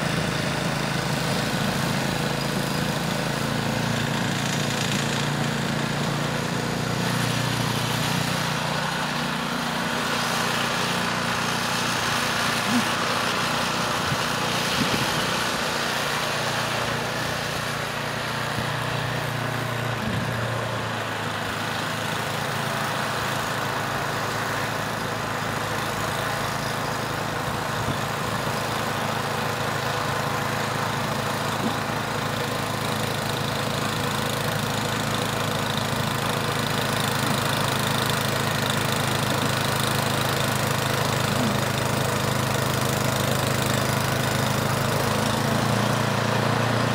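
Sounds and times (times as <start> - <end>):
snowblower engine running: 0.0 - 46.9.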